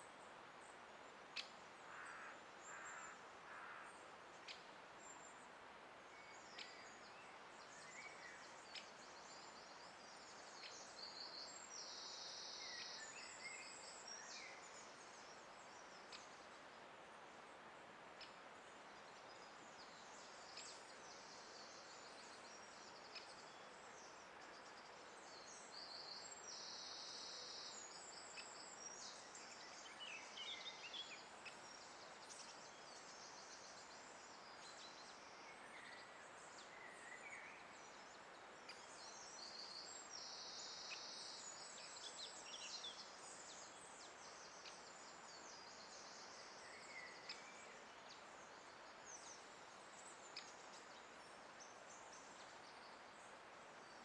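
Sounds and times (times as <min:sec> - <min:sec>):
background hiss: 0:00.0 - 0:54.0
songbirds singing: 0:00.0 - 0:54.0.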